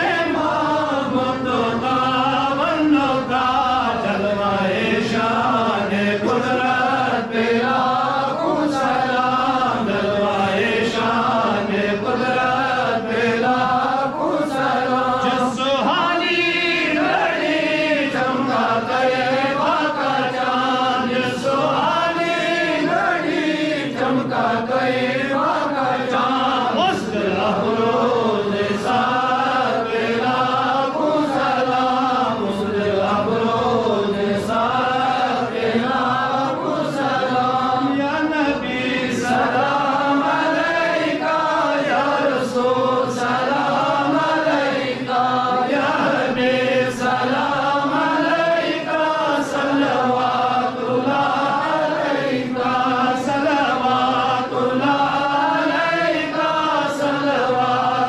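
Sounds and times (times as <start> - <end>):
voices chanting together: 0.0 - 58.0.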